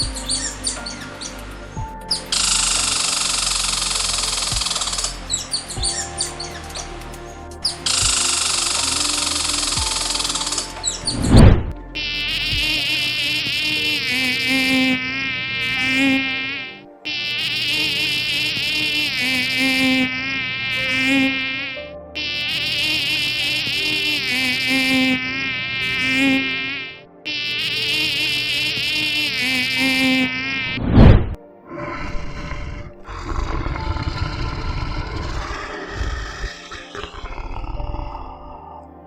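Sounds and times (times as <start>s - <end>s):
insect-like buzzing: 2.1s - 6.9s, 7.6s - 31.4s, 32.3s - 38.5s.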